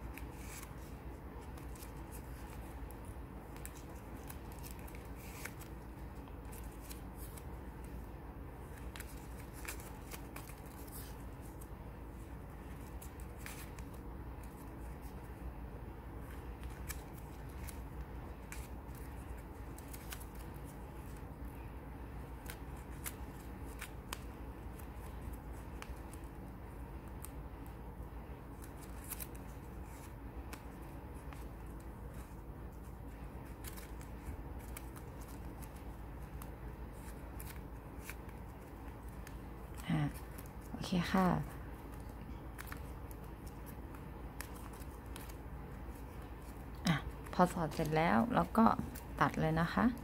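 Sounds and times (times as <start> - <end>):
ribbon rustling and crinkling: 0.0 - 50.0
steady low hum: 0.0 - 50.0.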